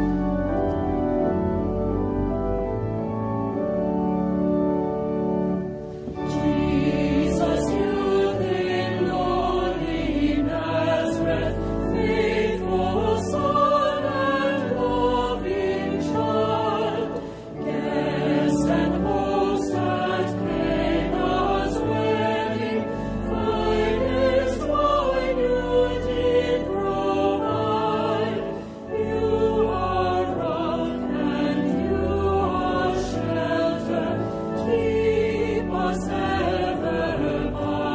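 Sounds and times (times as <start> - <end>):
choir singing a hymn: 5.4 - 37.9.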